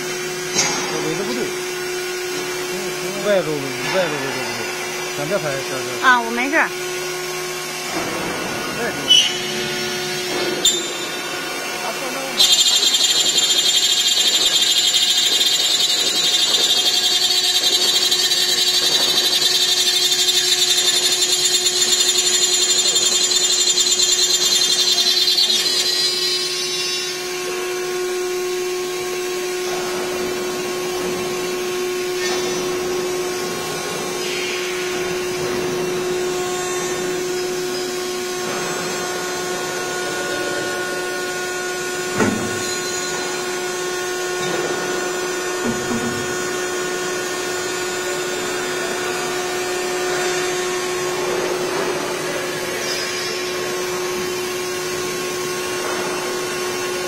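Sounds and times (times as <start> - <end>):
machine high-pitched whine: 0.0 - 57.0
steady machine hum: 0.0 - 57.0.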